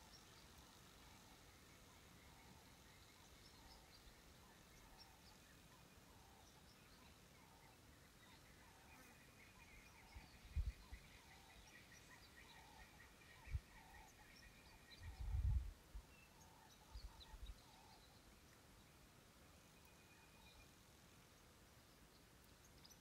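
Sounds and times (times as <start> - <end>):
faint repeated bird call: 0.0 - 23.0.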